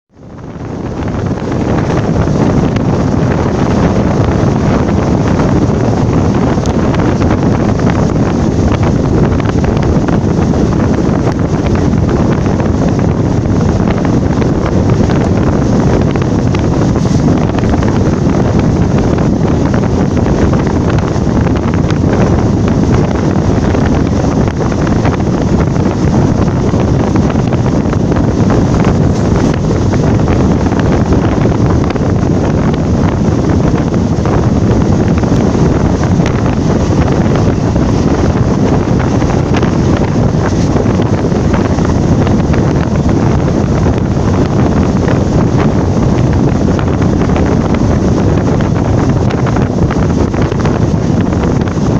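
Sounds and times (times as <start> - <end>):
moving train: 0.1 - 51.9
wind buffeting microphone: 0.1 - 51.9.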